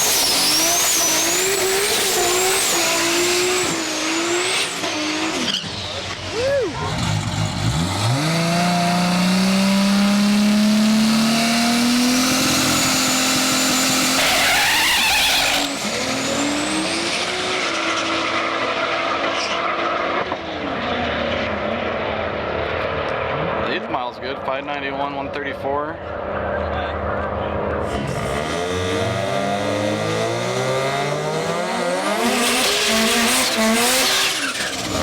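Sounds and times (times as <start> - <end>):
drag race car accelerating: 0.0 - 35.0.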